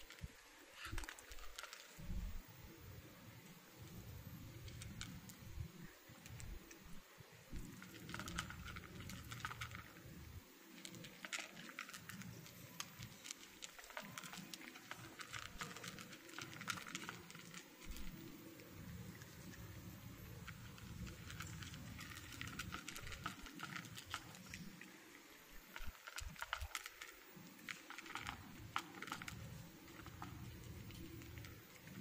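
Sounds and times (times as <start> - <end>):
cats crunching kibble: 0.0 - 2.4, 3.8 - 32.0.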